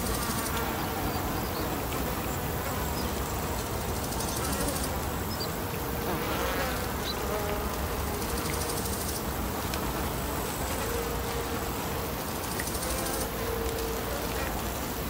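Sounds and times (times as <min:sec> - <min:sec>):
insect buzzing: 0:00.0 - 0:15.0.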